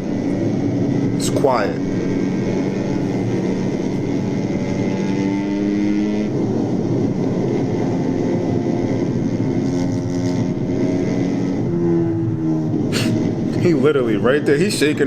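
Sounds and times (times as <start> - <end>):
steady engine drone: 0.0 - 15.0.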